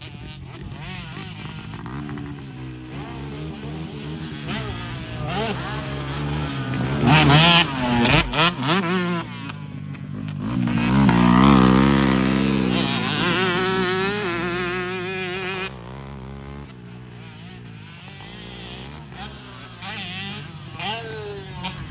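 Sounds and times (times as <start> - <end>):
two-stroke engine revving: 0.0 - 21.9.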